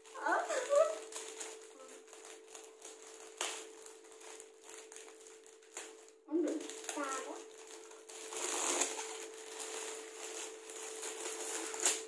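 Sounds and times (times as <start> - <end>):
foil wrap crinkling: 0.0 - 12.0
scissors cutting foil: 0.0 - 12.0.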